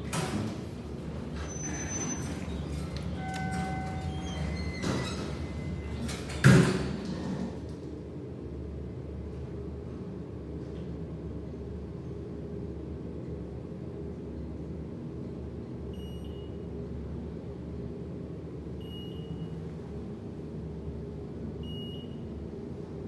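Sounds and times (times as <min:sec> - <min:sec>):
elevator hum: 0:00.0 - 0:23.0.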